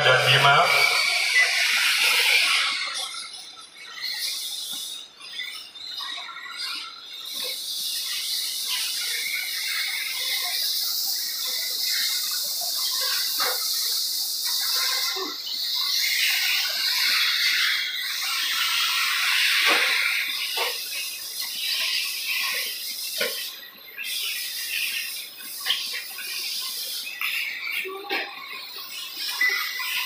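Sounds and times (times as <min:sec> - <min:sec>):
rc buggies whining: 0:00.0 - 0:30.0.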